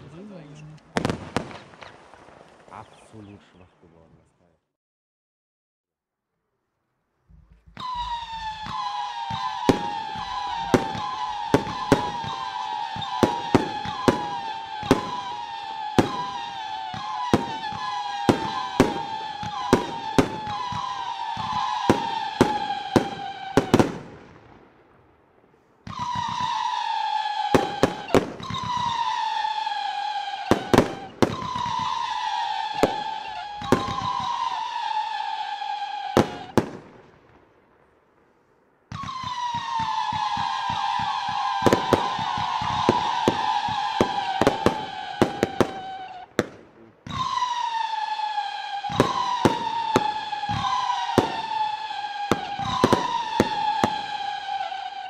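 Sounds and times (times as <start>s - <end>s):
firework bangs: 0.0s - 3.4s, 7.3s - 55.0s
firework whistles falling in pitch: 7.3s - 24.5s, 25.8s - 37.3s, 38.9s - 55.0s.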